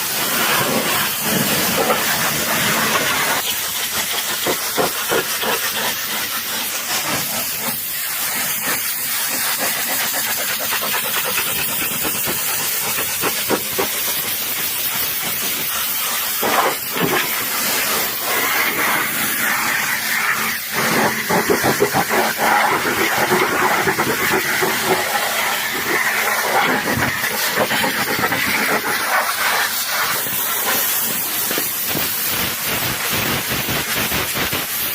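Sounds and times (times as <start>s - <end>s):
pressure washer spraying water: 0.0s - 34.9s.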